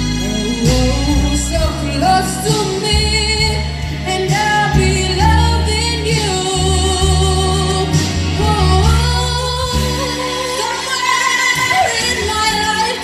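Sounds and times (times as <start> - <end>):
backing music with heavy bass: 0.0 - 13.0.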